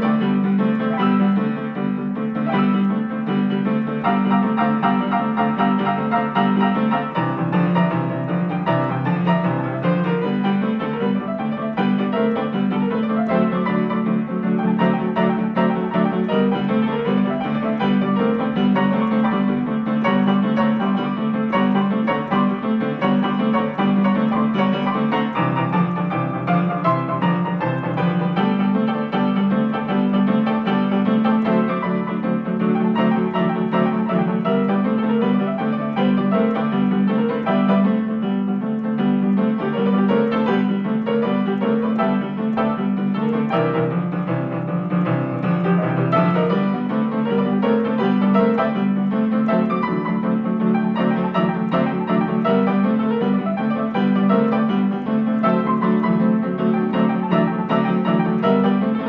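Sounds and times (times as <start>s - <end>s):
boogie-woogie piano: 0.0s - 59.0s.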